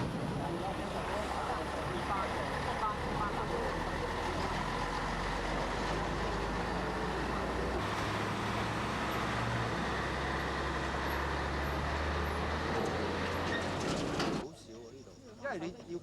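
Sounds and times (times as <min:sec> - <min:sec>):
vehicle engine running: 0:00.0 - 0:13.4
road and traffic noise: 0:00.0 - 0:14.9.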